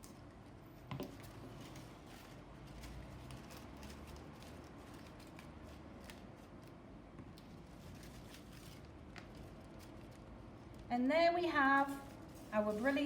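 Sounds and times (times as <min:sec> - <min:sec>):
paper rustling: 0:01.1 - 0:10.3, 0:11.8 - 0:13.0.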